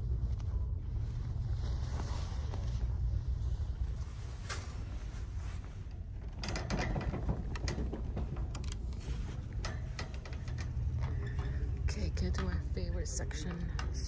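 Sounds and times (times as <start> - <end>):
cart wheels rolling rumble: 0.1 - 12.6.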